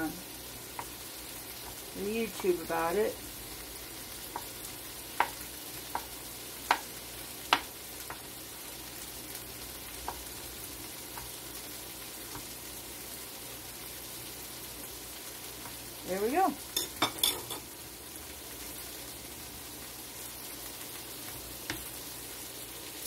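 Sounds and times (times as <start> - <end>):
vegetables sizzling in skillet: 0.0 - 23.0.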